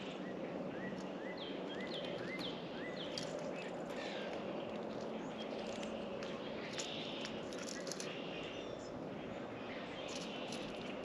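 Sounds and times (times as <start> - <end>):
outdoor background hiss: 0.0 - 11.0
songbird singing: 0.0 - 11.0.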